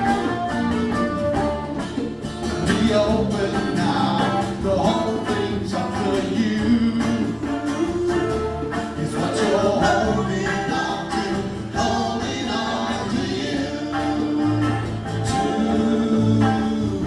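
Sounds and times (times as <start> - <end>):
bass guitar: 0.0 - 17.0
electric and acoustic guitars: 0.0 - 17.0
percussion beat: 0.0 - 17.0
person singing: 2.6 - 17.0.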